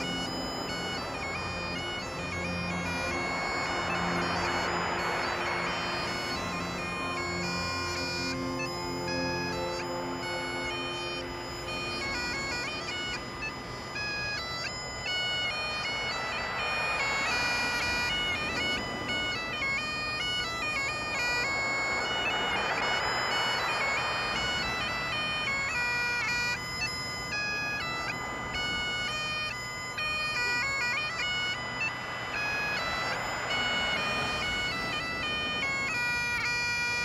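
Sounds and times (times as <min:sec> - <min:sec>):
bagpipe drones humming: 0:00.0 - 0:37.0
bagpipe melody: 0:00.0 - 0:37.0.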